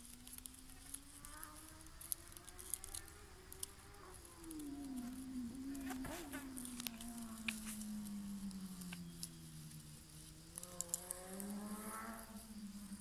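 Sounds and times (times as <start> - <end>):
faint sharp clicks: 0.0 - 9.8, 10.5 - 12.0
insect wings buzzing: 0.0 - 13.0.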